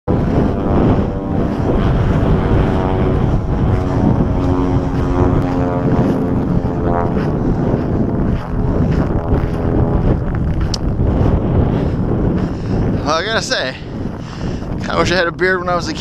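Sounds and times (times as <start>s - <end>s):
droning hum: 0.1s - 16.0s
wind buffeting microphone: 0.1s - 16.0s.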